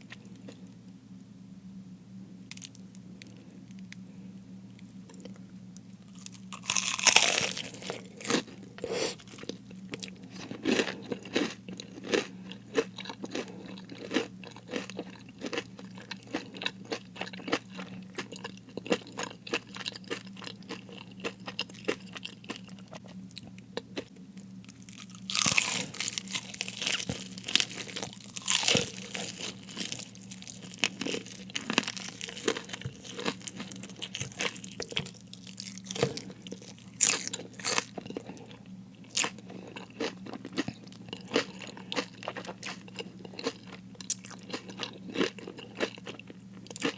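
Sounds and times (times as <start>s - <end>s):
crackly chewing: 4.7s - 46.9s
crunching bites of fried food: 6.2s - 24.1s, 24.7s - 46.9s.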